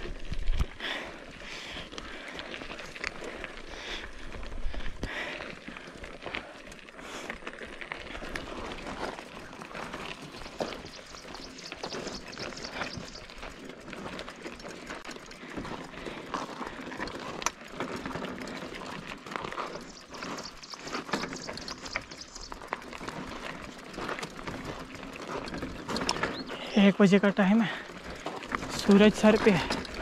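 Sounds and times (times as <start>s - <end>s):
bike clicks and rattles: 0.0s - 30.0s
bike tyres rustling on gravel: 0.0s - 30.0s.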